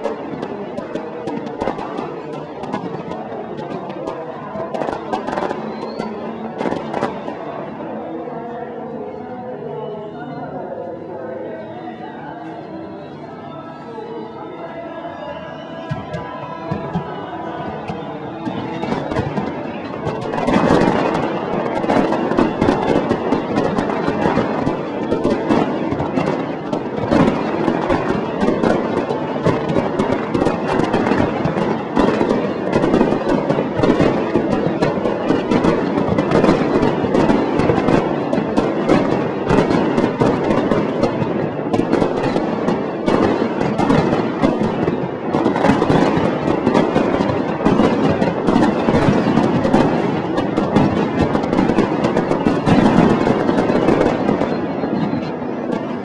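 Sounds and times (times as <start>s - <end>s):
fireworks bangs and crackling: 0.0s - 8.6s, 15.5s - 56.0s.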